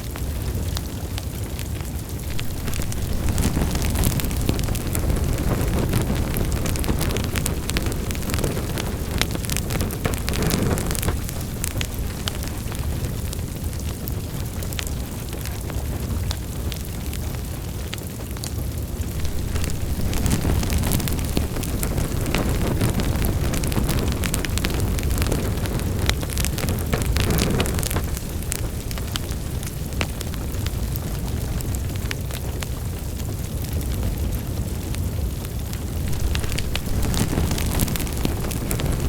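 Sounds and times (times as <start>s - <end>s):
burning logs crackling and popping: 0.0s - 39.0s
low roar of flames: 0.0s - 39.0s.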